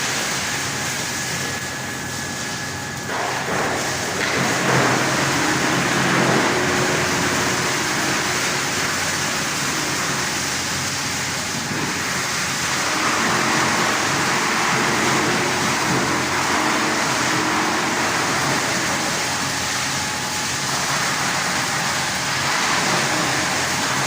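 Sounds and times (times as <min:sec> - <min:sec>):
stump chipper running: 0:00.0 - 0:24.0.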